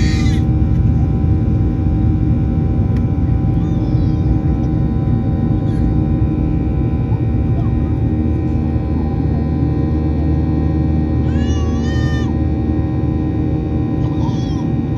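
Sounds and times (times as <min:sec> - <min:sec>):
jet engines rumbling in cabin: 0:00.0 - 0:14.9.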